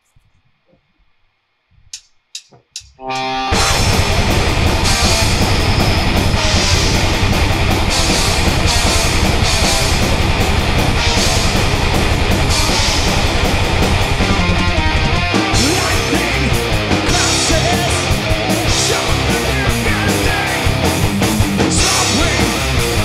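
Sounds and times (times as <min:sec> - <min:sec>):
heavy metal band playing live: 0:03.0 - 0:23.0
fast drum hits: 0:03.6 - 0:23.0.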